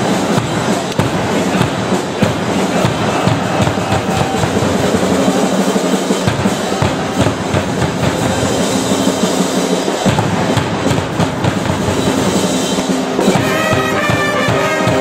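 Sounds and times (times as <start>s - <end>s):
brass band playing: 0.0s - 15.0s
crowd cheering: 0.0s - 15.0s
drums beating: 0.0s - 15.0s.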